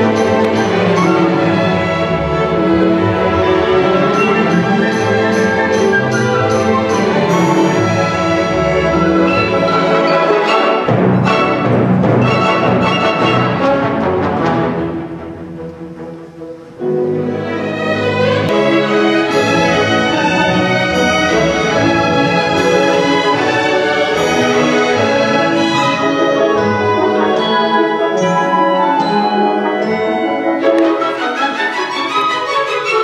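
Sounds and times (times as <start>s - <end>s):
brass: 0.0s - 33.0s
strings: 0.0s - 33.0s.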